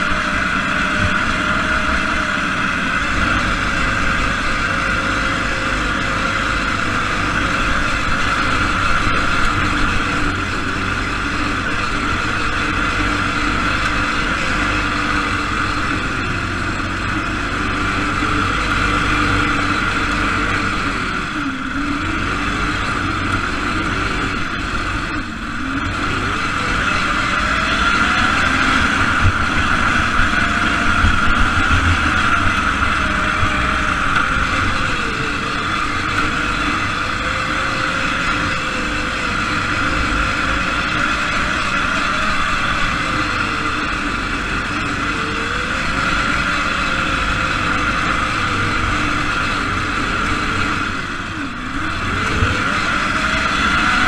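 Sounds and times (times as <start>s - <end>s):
off-road car engine revving: 0.0s - 54.0s.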